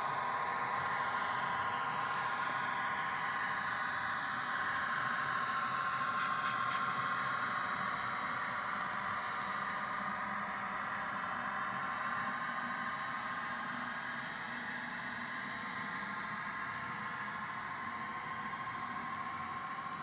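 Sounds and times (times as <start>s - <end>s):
model trains running on track: 0.0s - 20.0s.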